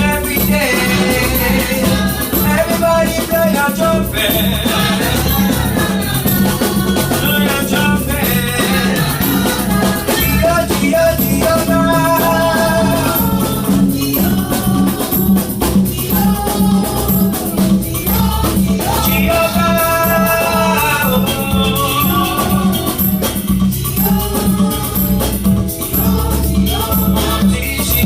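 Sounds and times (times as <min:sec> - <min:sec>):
shakers: 0:00.0 - 0:28.0
steady repeating beat: 0:00.0 - 0:28.0
voices singing gospel: 0:00.0 - 0:28.0.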